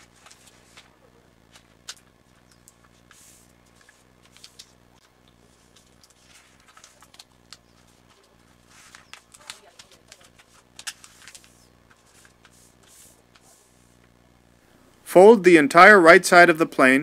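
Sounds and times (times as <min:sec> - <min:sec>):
paper rustling and crinkling: 0:00.0 - 0:14.0
paper sliding hiss: 0:00.0 - 0:14.8.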